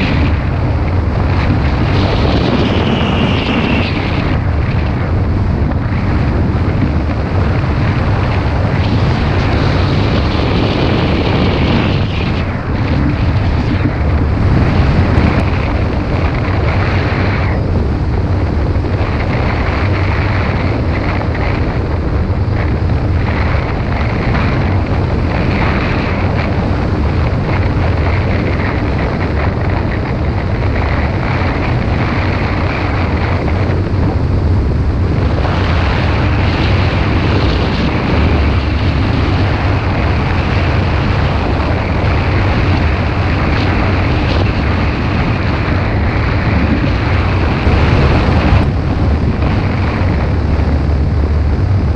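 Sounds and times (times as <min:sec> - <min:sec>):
engine running in flight: 0:00.0 - 0:51.9
wind rushing over microphone: 0:00.0 - 0:51.9.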